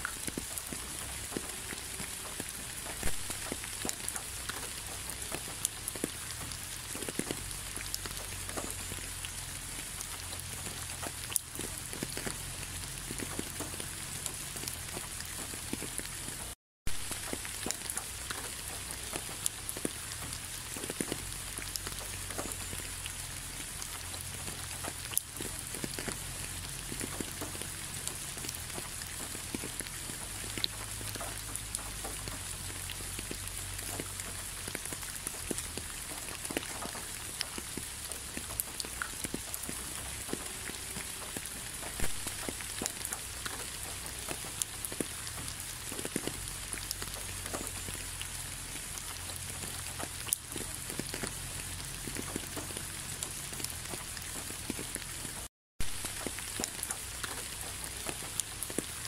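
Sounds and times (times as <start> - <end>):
raindrops striking nearby: 0.0 - 59.0
steady rain: 0.0 - 59.0.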